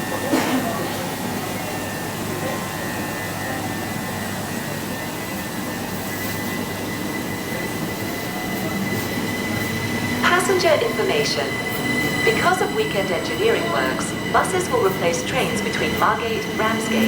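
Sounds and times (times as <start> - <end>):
train rumbling past: 1.0 - 17.0.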